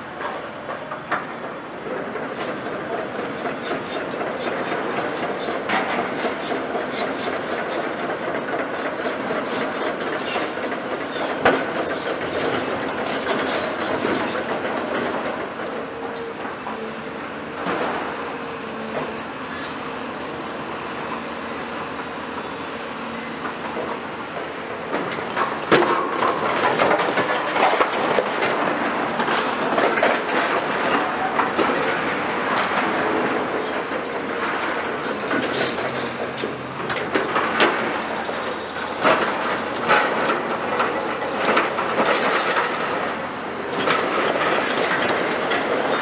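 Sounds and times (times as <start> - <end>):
crawler tracks clanking and squeaking: 0.2 - 22.6, 23.2 - 46.0.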